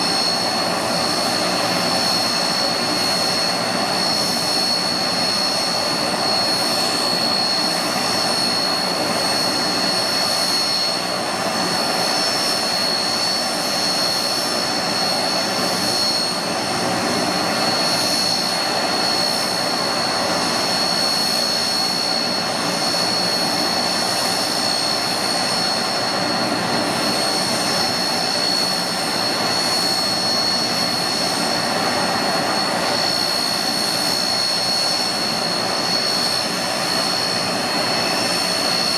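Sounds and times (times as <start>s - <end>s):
turboprop engines whining and roaring: 0.0s - 38.9s.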